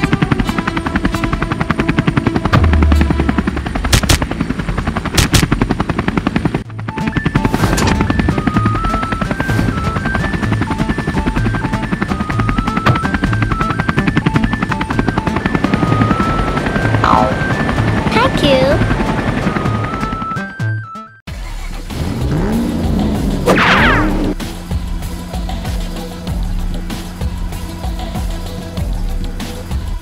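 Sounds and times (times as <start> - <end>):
background music: 0.0 - 4.5, 6.6 - 30.0
cartoon helicopter rotor chopping: 0.0 - 20.4, 22.2 - 29.8.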